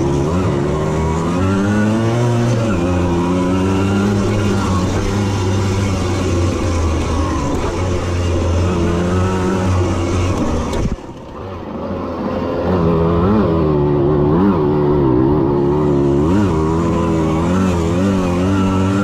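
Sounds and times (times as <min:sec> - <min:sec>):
moped engine revving: 0:00.0 - 0:19.0.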